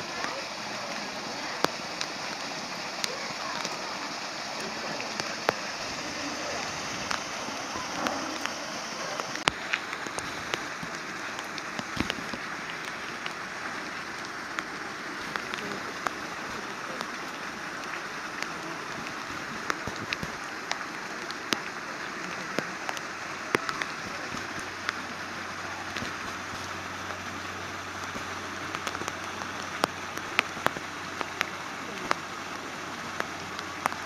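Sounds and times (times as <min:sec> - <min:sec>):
gentle rain on wet ground: 0:00.0 - 0:34.0.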